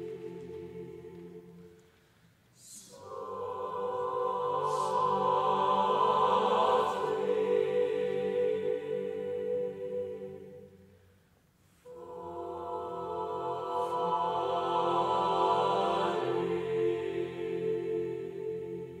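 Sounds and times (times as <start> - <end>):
choir singing unaccompanied: 0.0 - 1.8, 2.6 - 10.9, 11.9 - 19.0.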